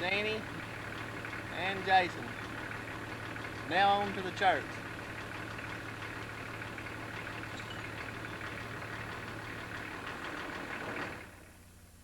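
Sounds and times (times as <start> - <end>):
car engine and road noise: 0.0 - 11.8.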